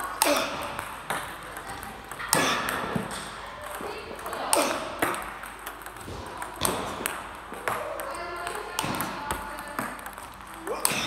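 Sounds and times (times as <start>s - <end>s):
table tennis ball clicks: 0.0s - 11.0s.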